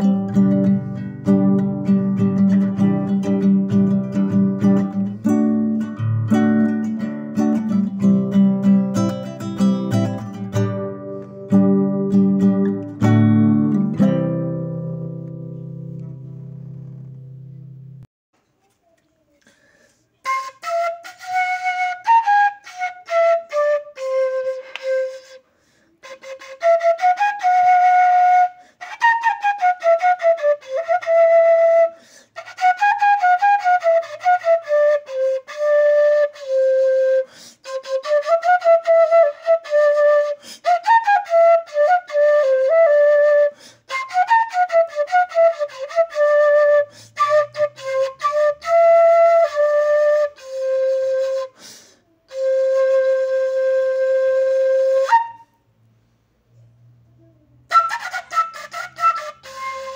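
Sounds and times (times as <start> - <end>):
solo flute melody: 0.0 - 16.4, 20.2 - 55.8, 56.8 - 59.9.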